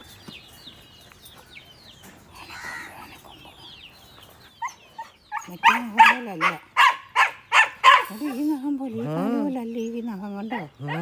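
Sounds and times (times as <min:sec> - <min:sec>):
chickens clucking and chirping: 0:00.0 - 0:11.0.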